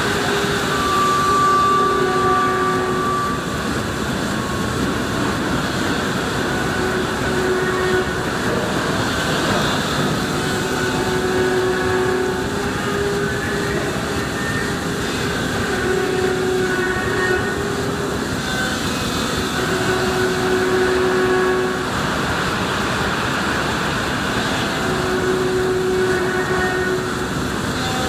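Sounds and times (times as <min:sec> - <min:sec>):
humming tone: 0:00.0 - 0:28.0
machine spindle whirring: 0:00.0 - 0:28.0.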